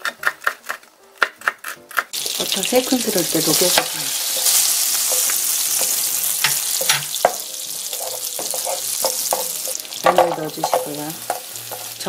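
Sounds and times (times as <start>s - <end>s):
spatula scraping a pan: 1.4s - 12.0s
butter sizzling in a frying pan: 2.2s - 12.0s.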